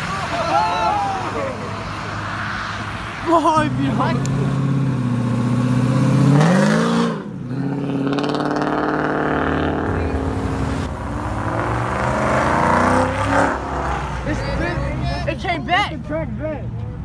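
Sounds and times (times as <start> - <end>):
car engines accelerating past: 0.0 - 15.2.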